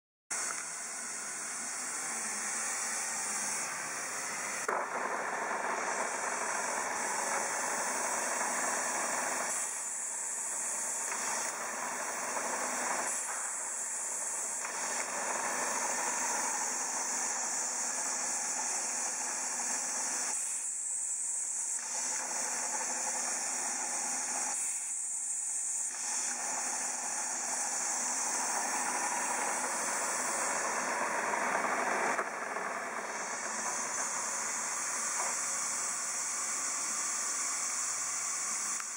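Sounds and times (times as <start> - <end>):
drill press motor whirring: 0.3 - 38.9.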